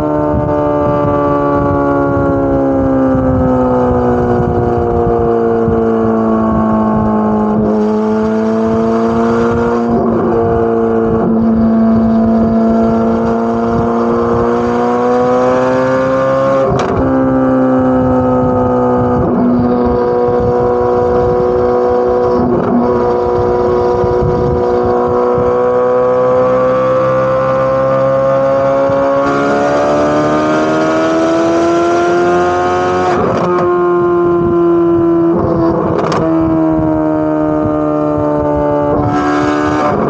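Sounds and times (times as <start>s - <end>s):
car exhaust at steady revs: 0.0s - 40.0s.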